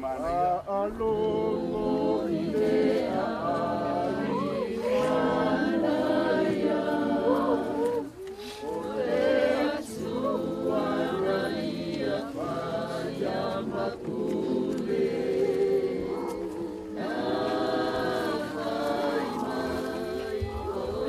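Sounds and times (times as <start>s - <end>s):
group singing a hymn unaccompanied: 0.2s - 21.0s.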